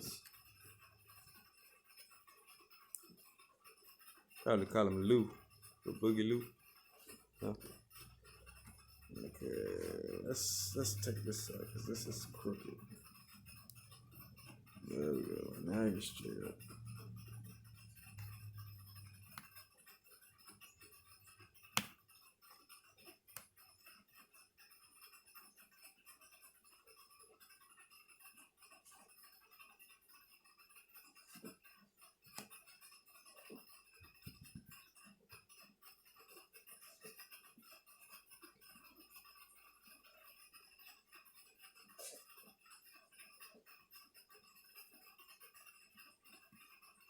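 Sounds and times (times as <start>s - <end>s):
small parts and screws clicking: 0.0s - 47.0s.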